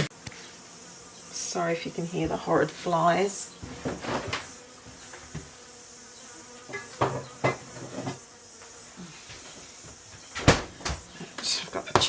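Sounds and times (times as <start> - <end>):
houseflies buzzing: 0.0 - 12.0.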